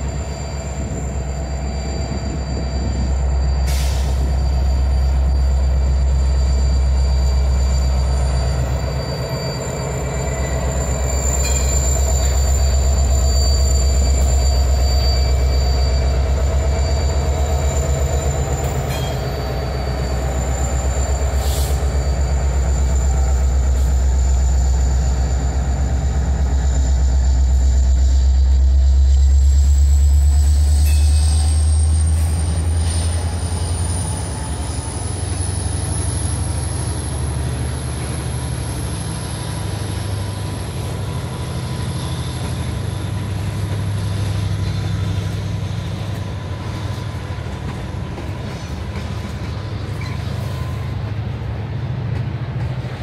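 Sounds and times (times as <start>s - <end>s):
diesel locomotive engine rumble: 0.0s - 53.0s.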